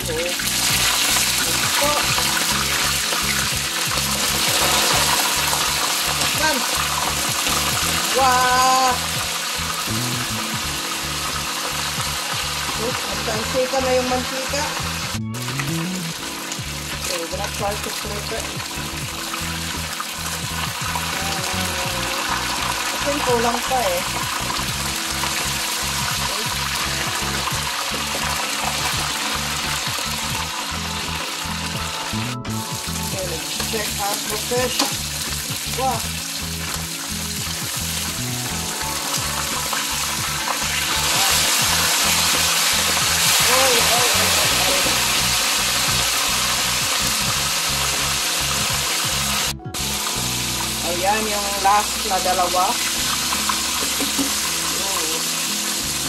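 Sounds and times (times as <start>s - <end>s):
fish sizzling in hot oil: 0.0s - 15.2s, 16.1s - 56.0s
background music: 0.0s - 56.0s.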